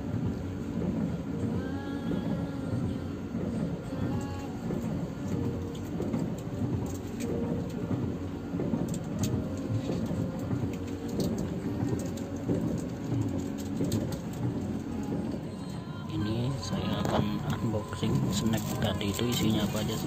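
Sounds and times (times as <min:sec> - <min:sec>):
bus engine rumbling: 0:00.0 - 0:20.0
rain tapping on bus windows: 0:00.0 - 0:20.0.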